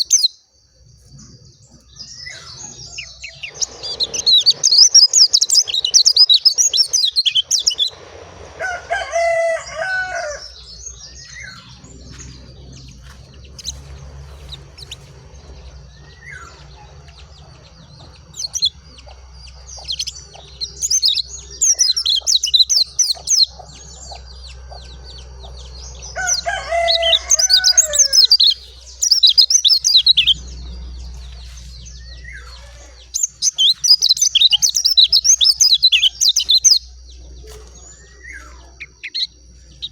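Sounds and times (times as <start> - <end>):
bird twittering song: 0.0 - 39.9
steady low hum: 0.0 - 39.9.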